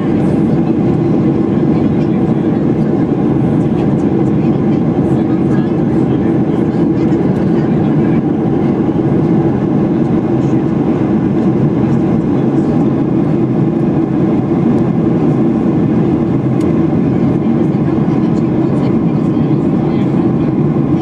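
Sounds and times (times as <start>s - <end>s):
airplane cabin low rumble: 0.0s - 21.0s.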